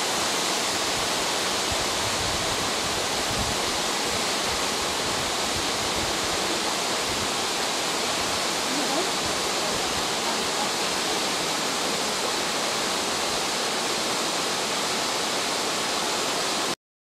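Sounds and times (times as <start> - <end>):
stream rushing over rocks: 0.0 - 16.8.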